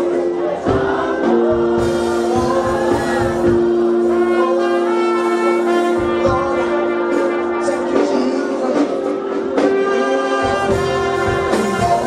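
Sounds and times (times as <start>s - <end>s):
congregation singing: 0.0s - 12.0s
drum beat: 0.5s - 12.0s.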